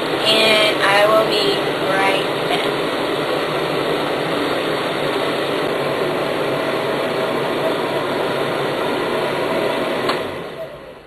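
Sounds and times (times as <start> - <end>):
faint steady hum: 0.0 - 11.0
hair dryer blowing air: 0.0 - 11.0.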